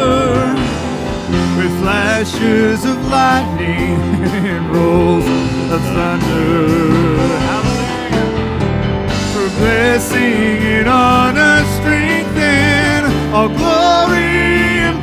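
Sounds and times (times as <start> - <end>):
voices singing: 0.0 - 8.3, 9.2 - 15.0
acoustic guitar: 0.0 - 15.0
band accompaniment: 0.0 - 15.0.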